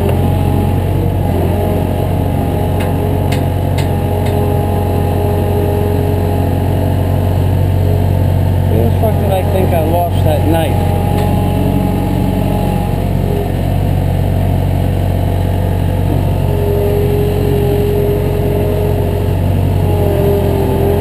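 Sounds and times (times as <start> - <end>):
engine running: 0.0 - 21.0
steady whine: 0.0 - 21.0.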